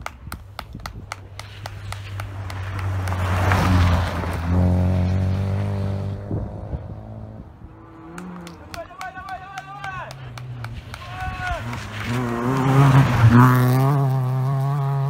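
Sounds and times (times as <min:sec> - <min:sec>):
rally car engine passing: 0:01.4 - 0:15.0.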